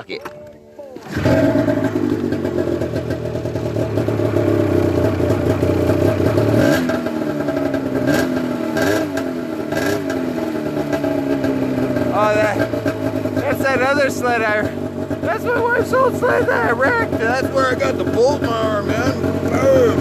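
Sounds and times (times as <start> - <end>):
snowmobile engine idling and revving: 1.0 - 20.0.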